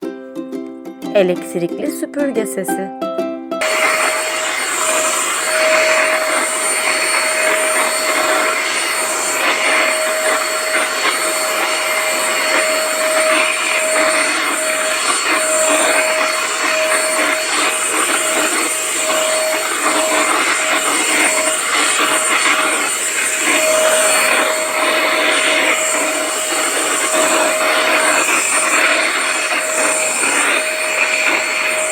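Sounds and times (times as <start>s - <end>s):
vacuum cleaner running: 3.6s - 31.9s.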